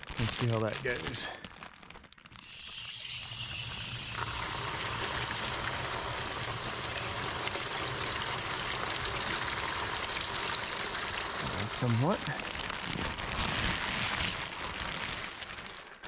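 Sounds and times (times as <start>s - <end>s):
water spraying against plastic sheet: 0.0s - 16.0s.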